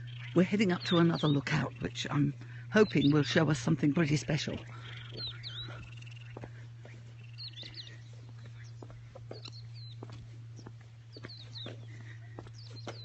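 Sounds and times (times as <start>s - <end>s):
birds chirping and calling: 0.0s - 13.0s
steady low hum: 0.0s - 13.0s.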